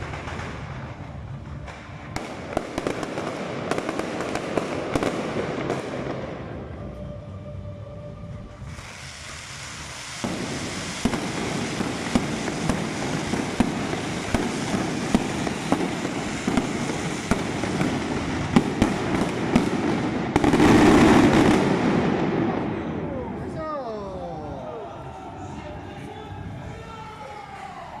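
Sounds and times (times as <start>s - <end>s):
fireworks crackling and banging: 0.0s - 7.0s, 8.3s - 28.0s.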